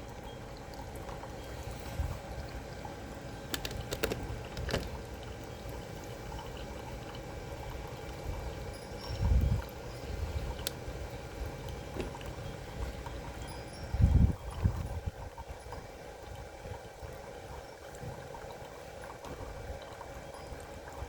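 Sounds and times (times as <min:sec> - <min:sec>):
coffee maker running: 0:00.0 - 0:21.0
coffee trickling into a cup: 0:00.0 - 0:21.0.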